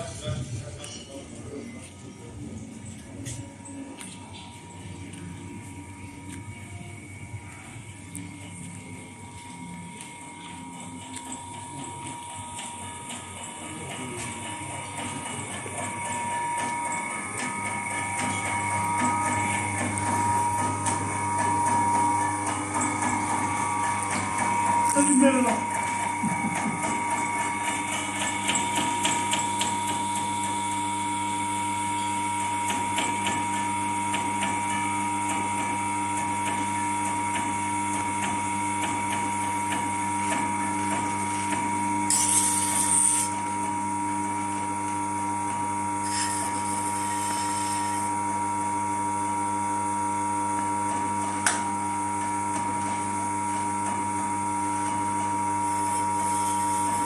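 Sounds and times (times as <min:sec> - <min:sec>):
potter's wheel motor whine: 0:00.0 - 0:57.0.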